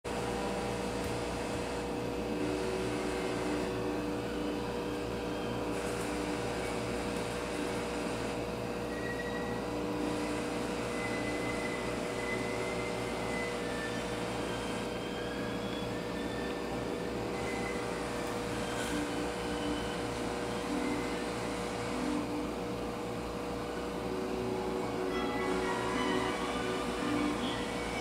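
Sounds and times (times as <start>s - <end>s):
aquarium air pumps humming: 0.0s - 28.0s.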